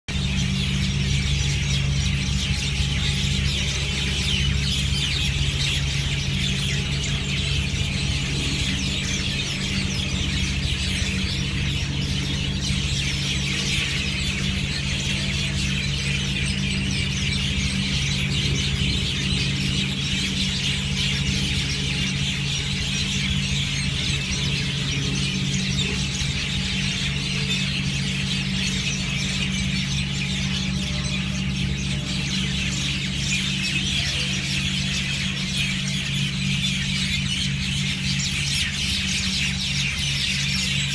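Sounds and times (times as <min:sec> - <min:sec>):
flock of birds chirping: 0:00.1 - 0:40.9
steady low hum: 0:00.1 - 0:40.9.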